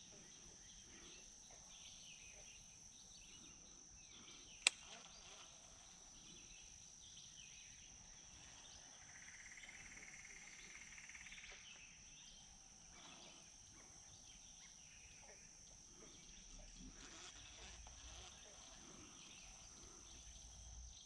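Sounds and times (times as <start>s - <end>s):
high-pitched insect drone: 0.0s - 21.0s
pulsing insect trill: 0.0s - 21.0s.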